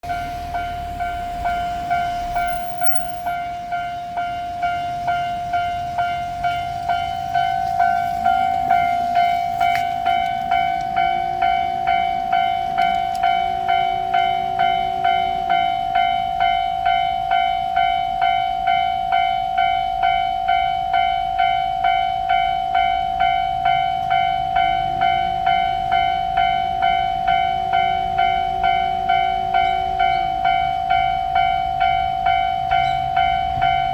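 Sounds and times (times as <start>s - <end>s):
railroad crossing bell ringing: 0.0s - 33.9s.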